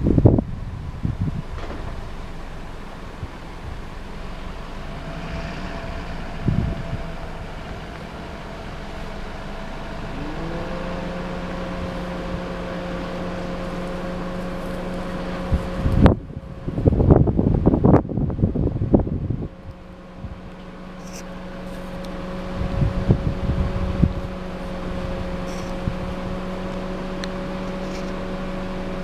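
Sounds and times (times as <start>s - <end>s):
wind noise on microphone: 0.0s - 2.4s, 3.1s - 21.3s, 22.2s - 28.3s
loud rumble: 0.0s - 29.0s
vehicle engine running: 0.0s - 29.0s.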